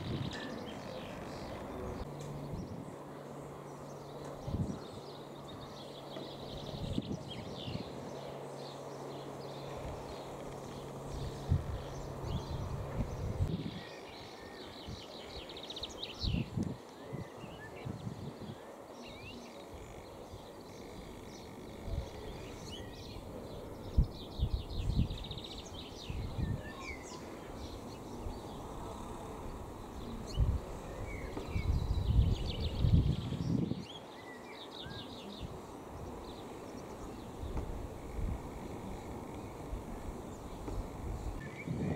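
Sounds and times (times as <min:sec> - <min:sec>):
wind buffeting microphone: 0:00.0 - 0:05.8, 0:06.4 - 0:18.6, 0:19.7 - 0:34.1, 0:35.2 - 0:41.9
songbirds trilling: 0:00.0 - 0:41.9.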